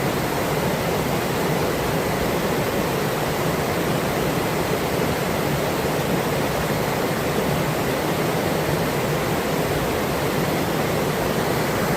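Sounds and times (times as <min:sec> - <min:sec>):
river water flowing: 0:00.0 - 0:11.9.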